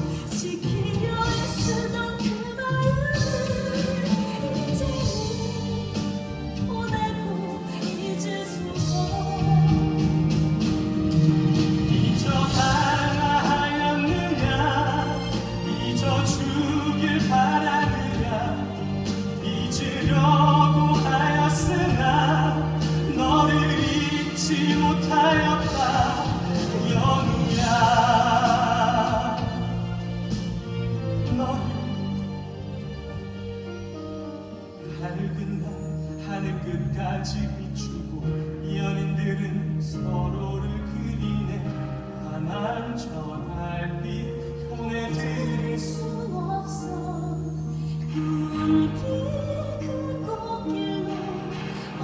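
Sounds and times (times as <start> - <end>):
orchestral accompaniment: 0.0 - 52.0.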